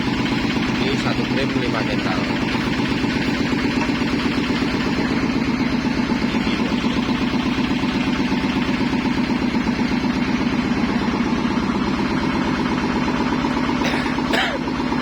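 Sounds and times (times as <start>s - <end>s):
processing machine humming: 0.0s - 15.0s.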